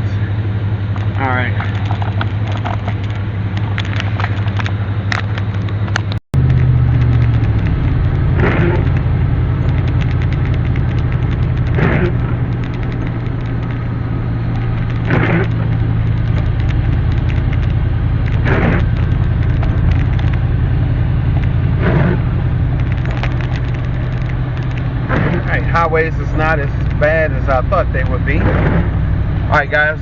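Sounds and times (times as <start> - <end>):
car engine hum: 0.0 - 30.0
road noise: 0.0 - 30.0
windshield wipers swishing: 0.9 - 29.7.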